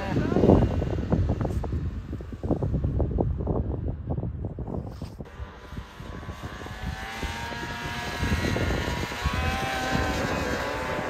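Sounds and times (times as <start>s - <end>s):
snowmobile engine at high revs: 0.0s - 3.9s, 4.5s - 11.0s.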